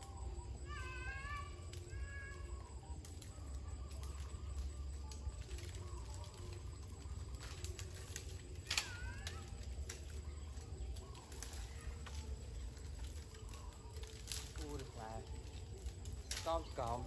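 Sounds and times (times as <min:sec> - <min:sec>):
faint bird calls: 0:00.0 - 0:17.0.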